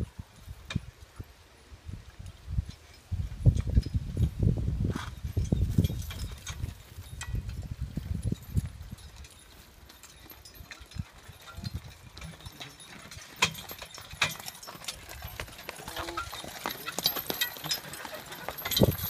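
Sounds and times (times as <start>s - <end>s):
horse hoof steps: 2.8s - 19.0s.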